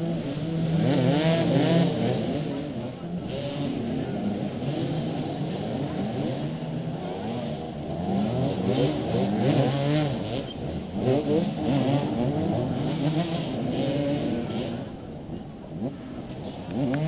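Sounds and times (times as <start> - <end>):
motorcycles revving: 0.0 - 17.0.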